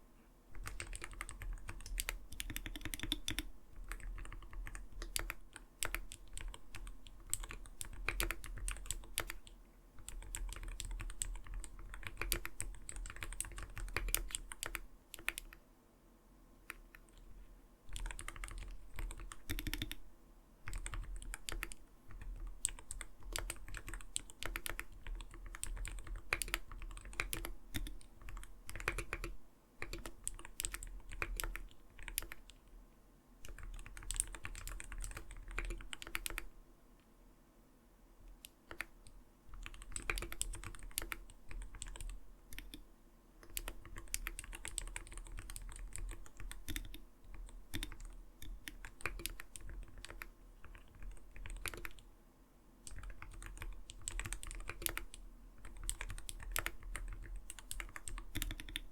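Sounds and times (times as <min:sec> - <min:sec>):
mechanical keyboard typing: 0:00.5 - 0:15.6, 0:17.9 - 0:20.0, 0:20.6 - 0:32.6, 0:33.4 - 0:36.5, 0:38.3 - 0:42.8, 0:43.4 - 0:52.0, 0:52.8 - 0:58.9.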